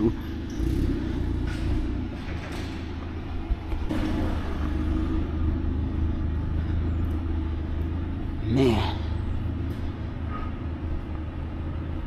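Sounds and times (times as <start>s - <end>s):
engine-like mechanical hum: 0.0s - 12.0s.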